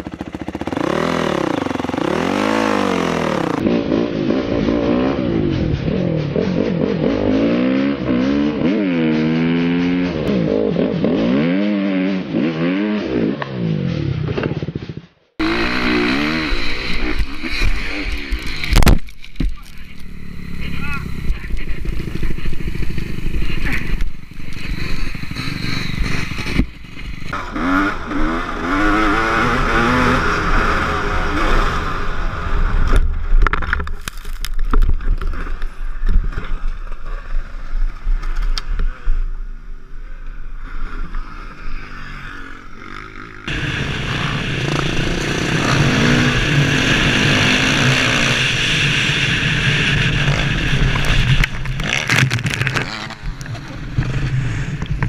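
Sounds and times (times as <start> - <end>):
dirt bike engines revving: 0.0 - 14.0, 15.4 - 33.5, 35.0 - 55.0.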